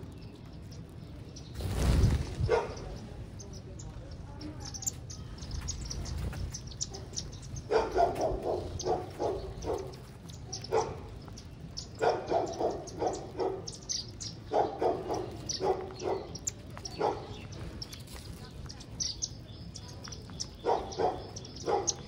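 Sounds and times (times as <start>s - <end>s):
small birds chirping: 0.0s - 22.0s
lower yapping bird calls: 2.3s - 22.0s.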